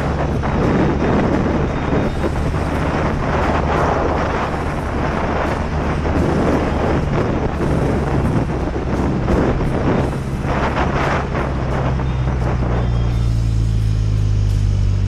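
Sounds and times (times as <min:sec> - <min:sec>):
motorcycle engine cruising: 0:00.0 - 0:15.0
wind rush on microphone: 0:00.0 - 0:15.0.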